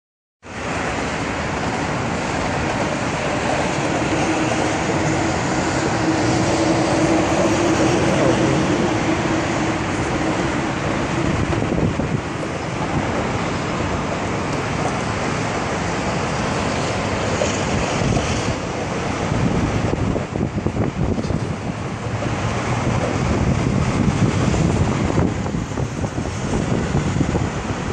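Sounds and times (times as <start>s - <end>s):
highway traffic roar: 0.4s - 27.9s.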